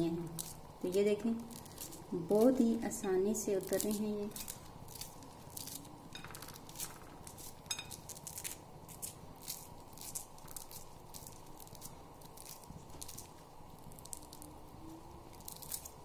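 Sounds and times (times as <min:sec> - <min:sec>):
corn kernels clicking and crackling: 0:00.0 - 0:16.0.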